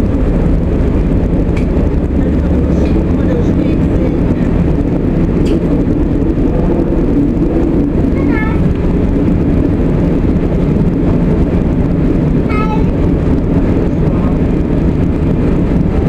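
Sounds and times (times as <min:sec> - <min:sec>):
diesel engine drone: 0:00.0 - 0:16.0
wheels rumbling on track: 0:00.0 - 0:16.0.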